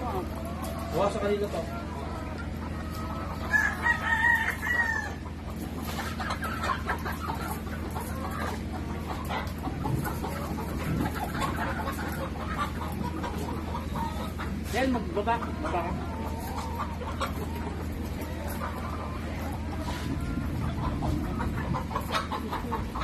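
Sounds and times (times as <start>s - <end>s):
hens clucking and squawking: 0.0s - 23.0s.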